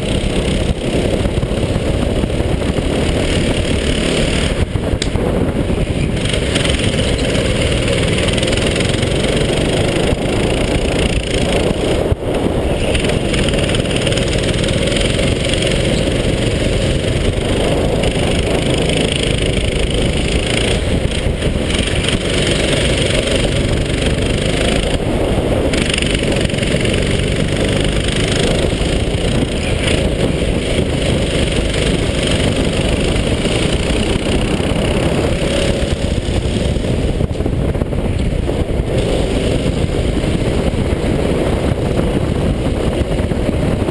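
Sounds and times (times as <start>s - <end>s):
another go-kart engine: 0.0s - 43.9s
go-kart engine running hard: 0.0s - 43.9s.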